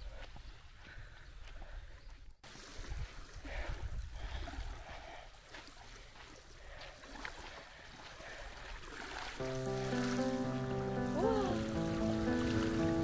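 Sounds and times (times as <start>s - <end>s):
small waves lapping on shore: 0.0s - 13.0s.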